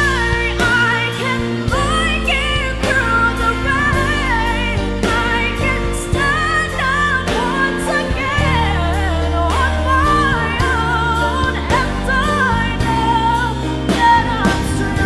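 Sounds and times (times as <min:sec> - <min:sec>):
bass and drums: 0:00.0 - 0:15.0
woman singing a pop ballad: 0:00.0 - 0:15.0.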